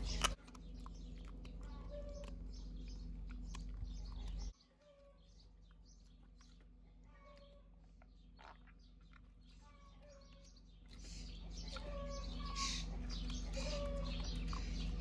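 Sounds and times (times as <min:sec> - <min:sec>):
bird chirps: 0:00.0 - 0:15.0
low steady hum: 0:00.0 - 0:15.0.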